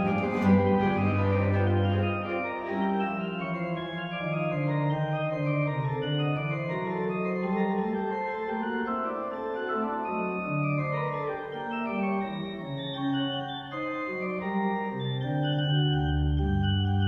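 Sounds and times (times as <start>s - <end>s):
chest organ playing baroque music: 0.0s - 17.0s.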